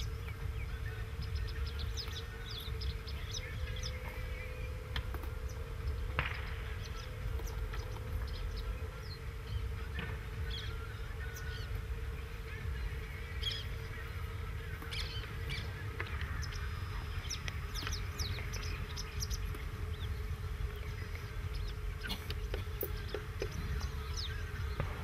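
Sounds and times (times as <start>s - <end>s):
birds calling: 0.0s - 25.0s
faint hum: 0.0s - 25.0s.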